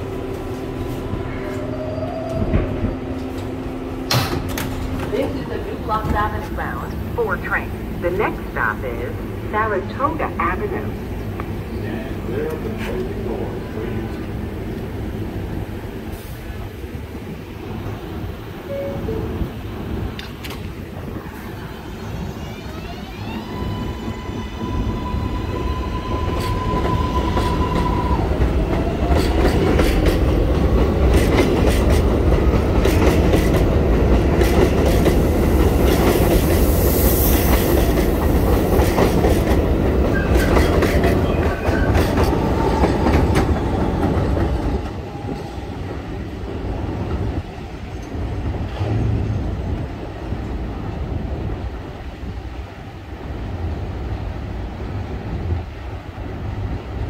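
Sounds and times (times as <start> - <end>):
subway cars rumbling past: 0.0 - 57.0
subway train propulsion whine: 0.0 - 57.0.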